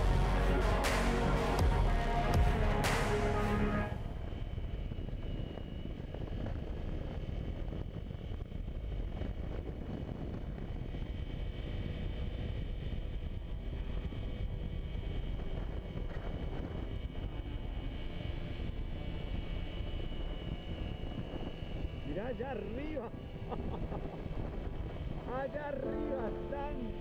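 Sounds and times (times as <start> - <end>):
wind over microphone: 4.1 - 27.0.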